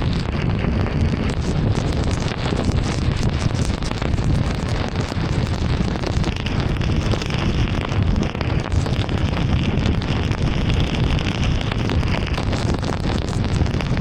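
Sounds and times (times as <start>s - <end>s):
rain rushing: 0.0s - 14.0s.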